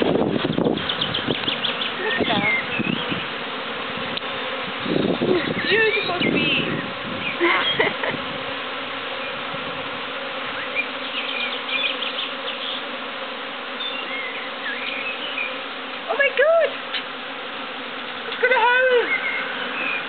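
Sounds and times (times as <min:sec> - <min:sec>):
honeybee swarm buzzing: 0:00.0 - 0:20.0.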